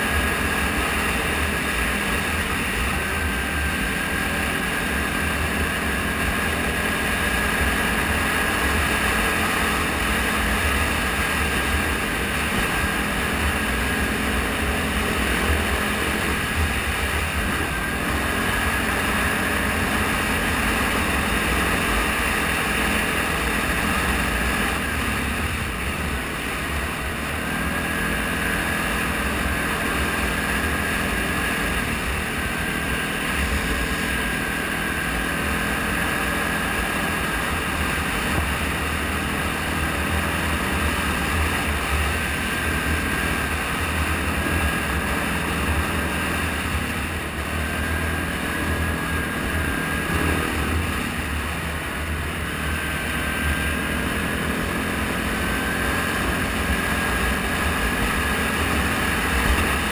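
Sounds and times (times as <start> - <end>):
atv engine running: 0.0 - 59.9
wind and road noise: 0.0 - 59.9.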